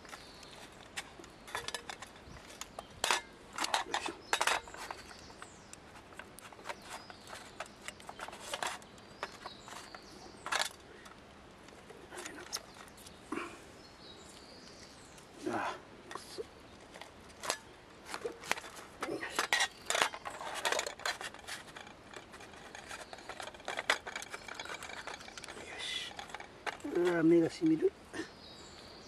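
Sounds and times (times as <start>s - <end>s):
camp cooking gear clinking: 0.0s - 13.5s, 16.1s - 28.3s.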